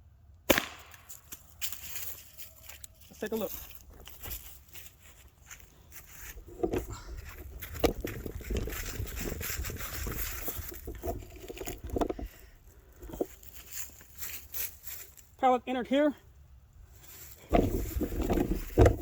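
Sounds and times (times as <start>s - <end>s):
footsteps: 0.8s - 15.4s, 16.9s - 19.0s
rustling handling noise: 1.1s - 15.4s, 16.8s - 19.0s.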